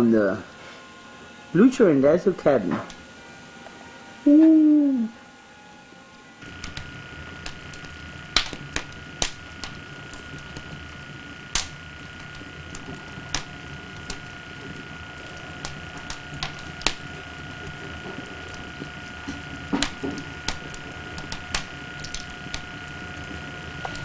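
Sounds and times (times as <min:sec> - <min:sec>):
wood fire crackling: 0:01.6 - 0:03.2, 0:06.4 - 0:24.0.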